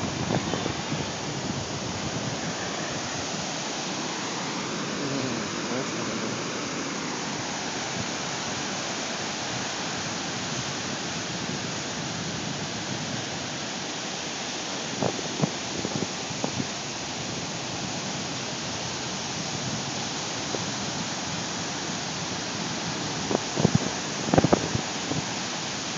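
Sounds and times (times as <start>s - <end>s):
surf washing onto beach: 0.0s - 25.9s.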